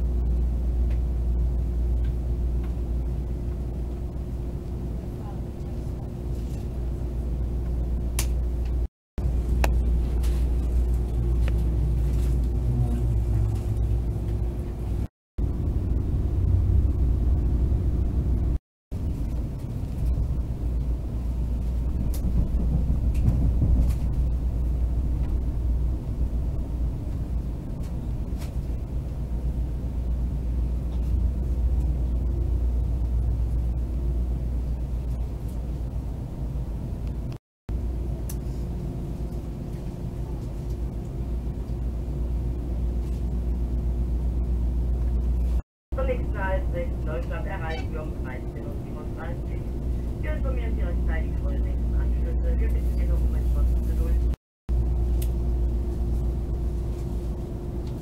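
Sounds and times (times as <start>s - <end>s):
constant hum: 0.0s - 58.0s
train low rumble: 0.0s - 58.0s.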